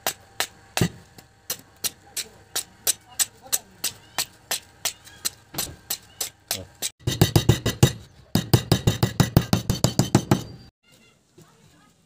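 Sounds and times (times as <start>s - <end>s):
hammer blows on wood: 0.0s - 10.7s.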